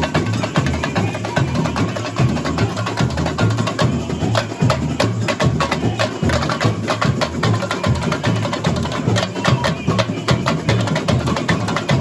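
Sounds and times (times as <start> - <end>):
bass drums beating: 0.0 - 12.0
fast sharp drum strokes: 0.0 - 12.0.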